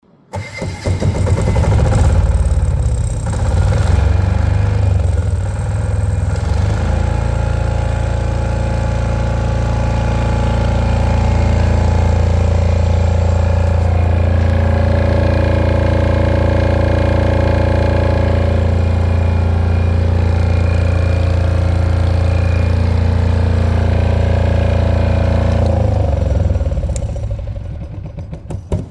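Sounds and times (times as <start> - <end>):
diesel generator running: 0.3 - 28.9.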